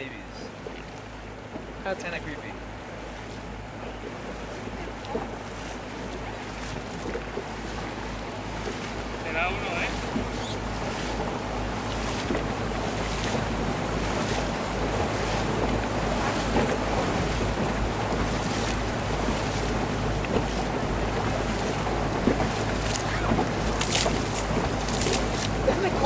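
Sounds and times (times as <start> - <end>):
boat motor humming: 0.0 - 26.0
water washing past: 0.0 - 26.0
wind buffeting microphone: 2.4 - 26.0.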